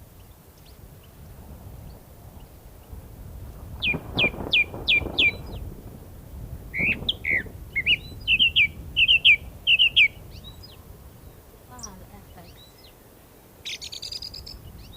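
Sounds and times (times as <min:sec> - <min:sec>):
small songbird chirping: 0:00.0 - 0:03.0, 0:03.7 - 0:05.6, 0:06.8 - 0:14.9
low wind rumble: 0:00.0 - 0:14.9.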